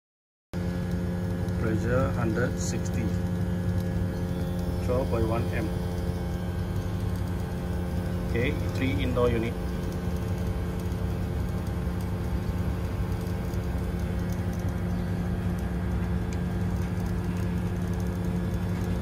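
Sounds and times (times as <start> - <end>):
air conditioner outdoor unit humming: 0.6 - 19.0.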